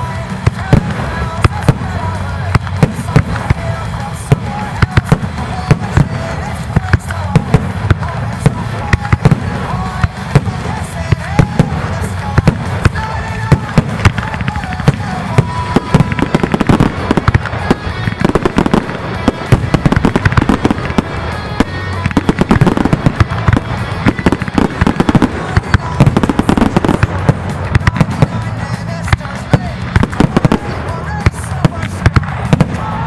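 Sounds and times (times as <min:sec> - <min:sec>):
fireworks bursting: 0:00.0 - 0:33.0
music playing: 0:00.0 - 0:33.0.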